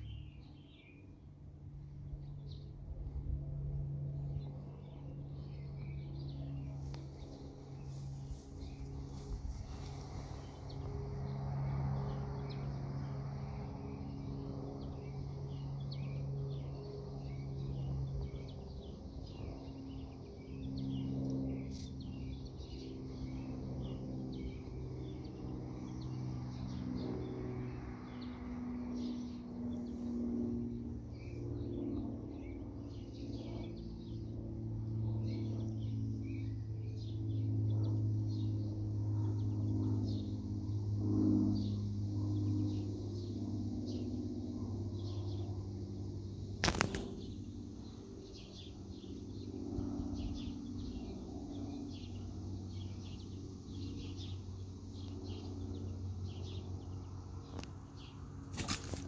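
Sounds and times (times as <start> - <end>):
small birds chirping: 0.0 - 1.1, 4.2 - 44.2, 44.8 - 59.0
low droning hum: 0.0 - 59.0.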